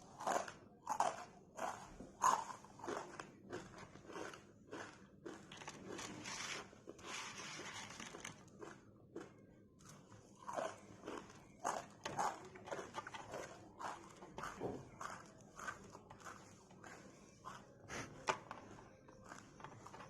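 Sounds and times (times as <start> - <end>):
crunching and chewing crisp snack: 0.0 - 20.0.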